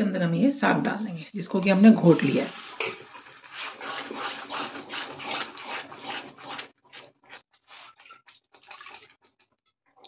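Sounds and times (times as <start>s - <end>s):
spatula stirring in a pan: 1.5s - 10.0s.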